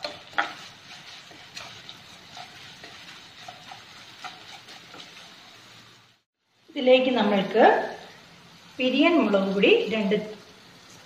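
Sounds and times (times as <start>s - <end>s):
spices sizzling in oil: 0.0s - 11.0s.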